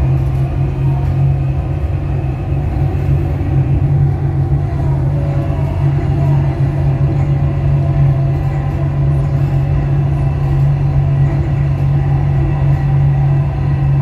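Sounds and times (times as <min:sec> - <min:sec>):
traction motors humming: 0:00.0 - 0:14.0
train wheels rumbling on rail: 0:00.0 - 0:14.0.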